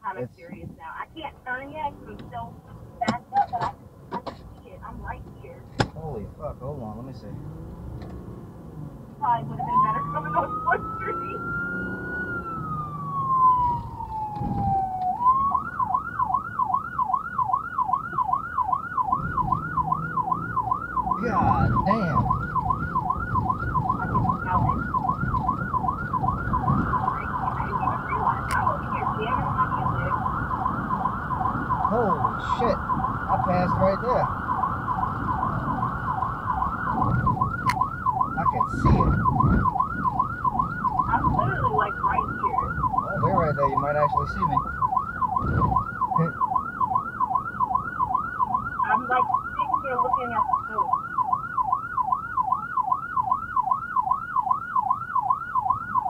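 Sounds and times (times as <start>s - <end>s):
vehicle engine and road noise: 0.0s - 56.0s
emergency siren wailing and yelping: 7.3s - 56.0s.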